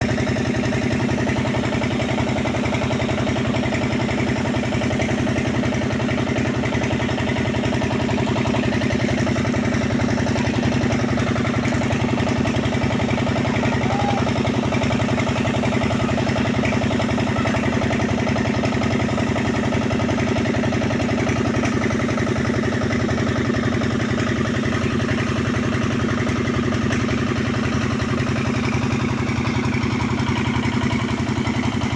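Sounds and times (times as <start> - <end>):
construction machinery engine running: 0.0 - 31.9.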